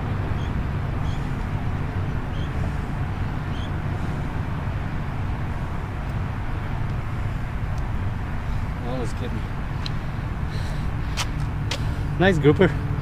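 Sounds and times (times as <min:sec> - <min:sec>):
distant traffic: 0:00.0 - 0:13.0.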